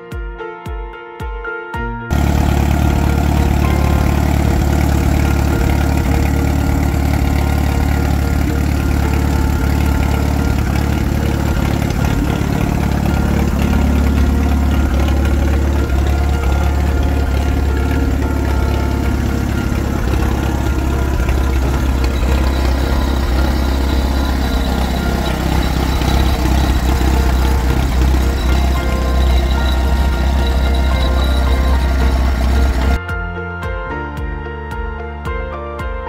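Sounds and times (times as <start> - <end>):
music: 0.0 - 36.0
tractor engine idling: 2.1 - 33.0.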